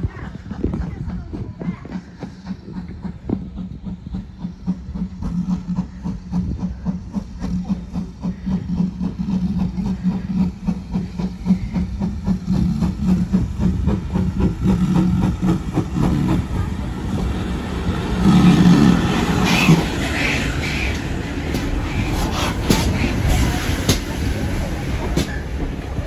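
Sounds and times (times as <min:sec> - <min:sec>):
steam engine exhaust beats: 0:00.0 - 0:26.0.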